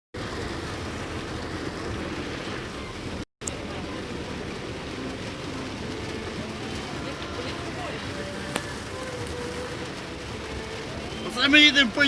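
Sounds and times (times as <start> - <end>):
car driving through floodwater: 0.2 - 12.0
heavy rain: 0.2 - 12.0.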